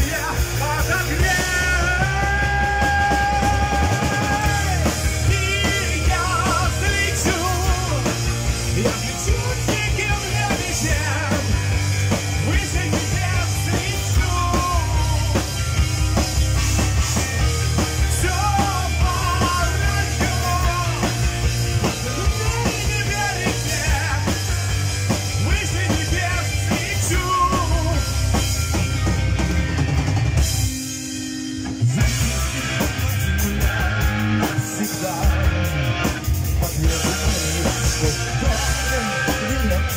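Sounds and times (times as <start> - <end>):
person singing lead vocals: 0.0 - 15.8, 17.4 - 28.5, 32.0 - 39.9
bass guitar: 0.0 - 39.9
distorted electric guitars: 0.0 - 39.9
drum kit: 0.0 - 39.9.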